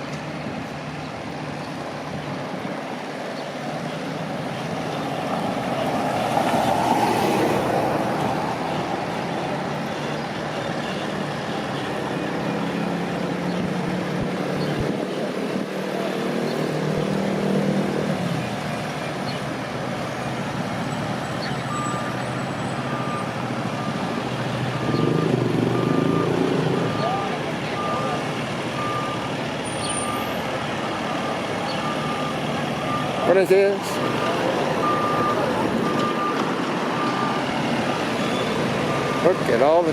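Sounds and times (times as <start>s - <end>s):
truck engine humming: 0.0s - 39.9s
vehicle passing loudly: 3.8s - 10.4s, 11.1s - 39.9s.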